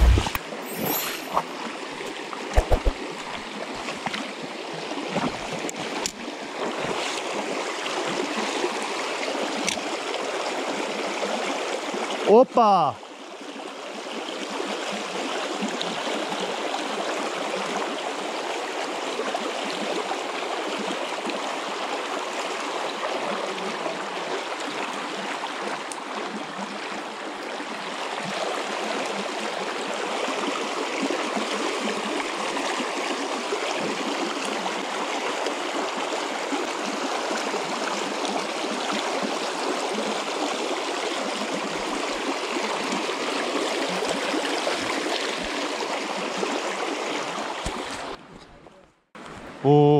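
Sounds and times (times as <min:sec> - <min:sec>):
creek rushing over stones: 0:00.0 - 0:48.4.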